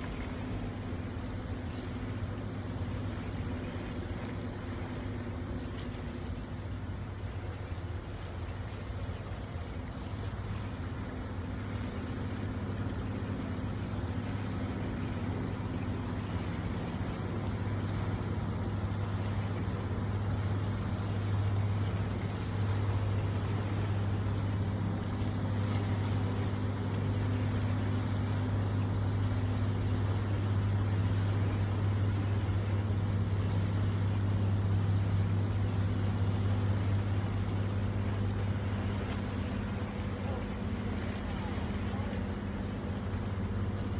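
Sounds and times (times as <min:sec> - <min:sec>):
boat engine humming: 0:00.0 - 0:43.9
water and waves washing: 0:00.0 - 0:43.9.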